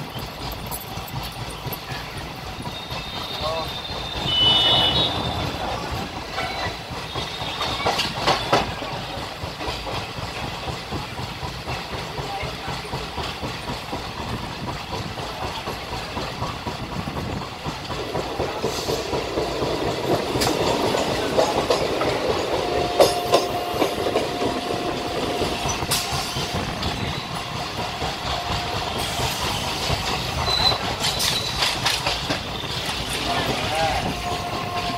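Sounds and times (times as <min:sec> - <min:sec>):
clickety-clack over rail joints: 0:00.0 - 0:34.9
train wheels rumbling on track: 0:00.0 - 0:34.9.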